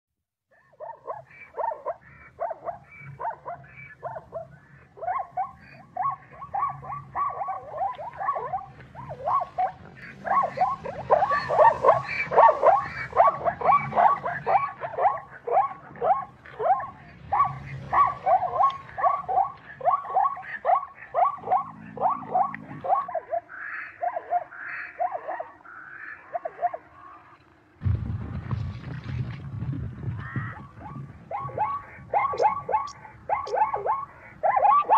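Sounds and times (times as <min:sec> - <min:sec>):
zebra barking call: 0:00.5 - 0:27.4, 0:30.2 - 0:34.9.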